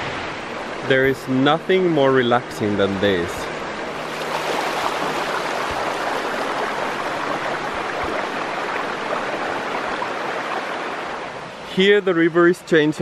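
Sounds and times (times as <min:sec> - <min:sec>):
stream rushing over stones: 0:00.0 - 0:11.5.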